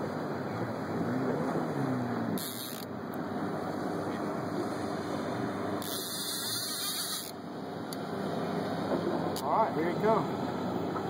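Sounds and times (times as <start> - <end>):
water lapping around boat: 0.0 - 11.0.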